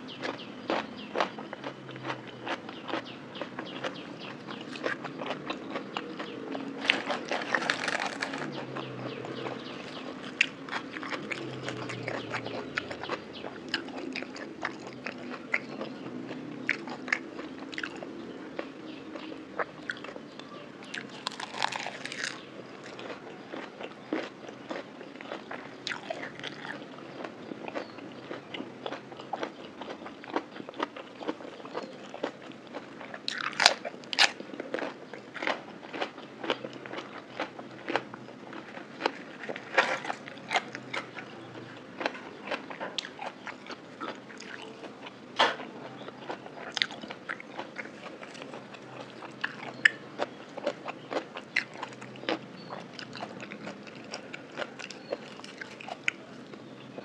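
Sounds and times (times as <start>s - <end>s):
close-miked crunchy eating: 0.0s - 57.0s.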